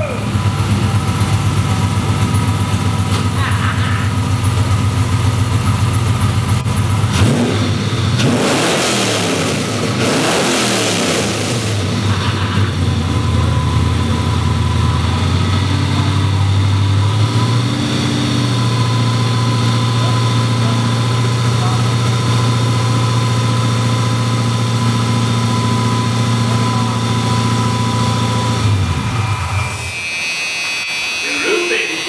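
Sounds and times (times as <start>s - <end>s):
car engine revving and idling: 0.0s - 29.8s.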